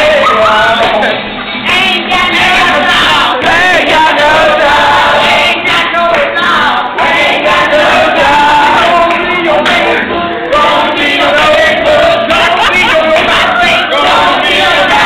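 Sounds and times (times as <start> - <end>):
group singing and chanting: 0.0 - 15.0.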